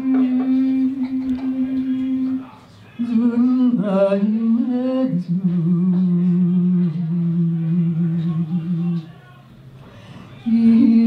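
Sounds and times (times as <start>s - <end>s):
woman singing long wordless notes: 0.0s - 2.4s, 3.0s - 9.1s, 10.4s - 11.0s.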